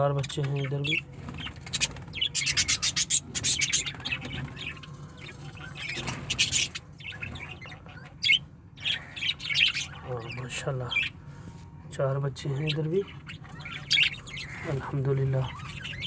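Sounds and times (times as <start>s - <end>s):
baby birds squawking: 0.0s - 11.5s, 12.3s - 16.0s.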